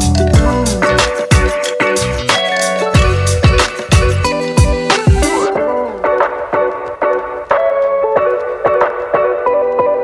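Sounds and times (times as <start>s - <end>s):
plucked guitar-like notes: 0.0s - 8.8s.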